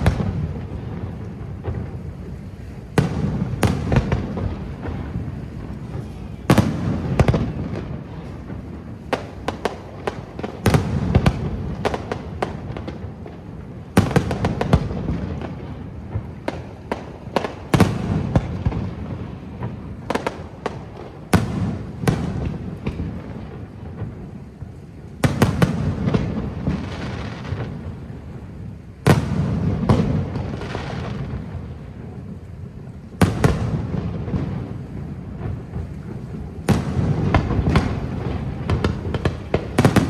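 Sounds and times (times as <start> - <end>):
continuous low rumble: 0.0 - 40.0.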